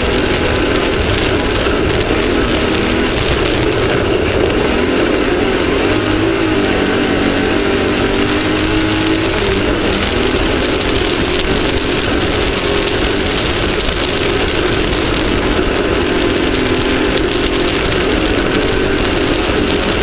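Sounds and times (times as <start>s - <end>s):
engine running hard: 0.0s - 20.0s
wind rushing: 0.0s - 20.0s.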